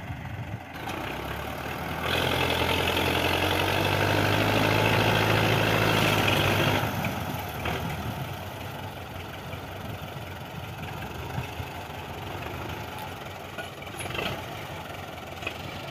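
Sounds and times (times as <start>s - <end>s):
tractor diesel engine: 0.0s - 15.9s.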